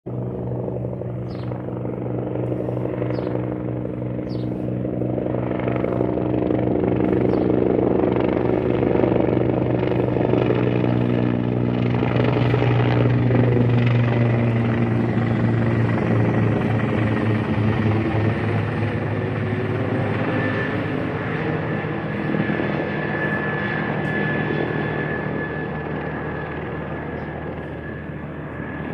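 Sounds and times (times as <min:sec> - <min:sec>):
helicopter engine and rotor drone: 0:00.0 - 0:28.9.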